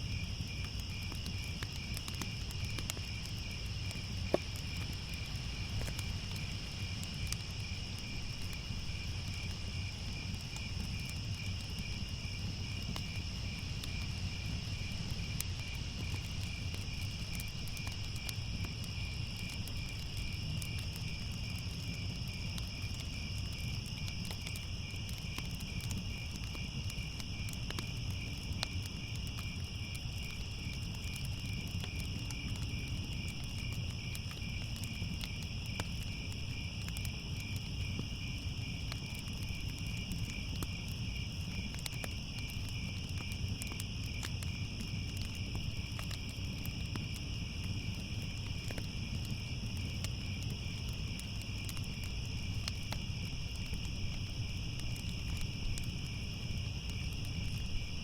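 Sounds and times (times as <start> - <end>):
crickets chirping: 0.0 - 58.0
fire crackling: 0.0 - 58.0.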